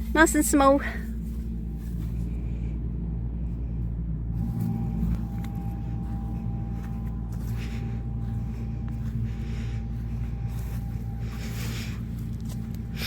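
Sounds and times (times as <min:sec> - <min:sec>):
engine idling drone: 0:00.0 - 0:13.0
faint thin whine: 0:00.0 - 0:13.0.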